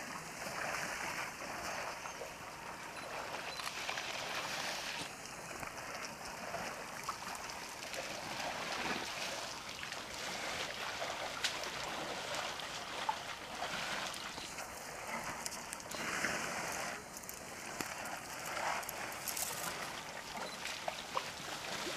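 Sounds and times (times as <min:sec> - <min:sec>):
water splashing and trickling: 0:00.0 - 0:21.9.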